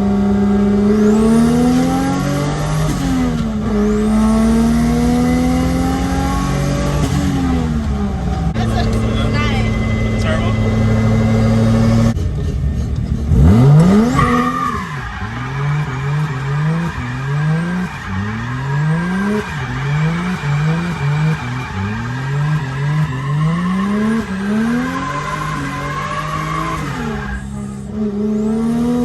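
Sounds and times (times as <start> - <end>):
car engine revving hard: 0.0 - 29.0
tires squealing: 0.0 - 29.0.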